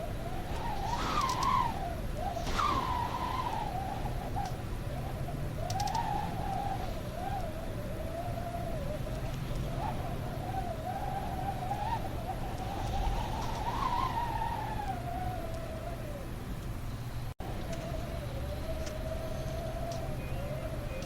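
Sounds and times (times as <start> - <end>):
wind howling: 0.0 - 21.0.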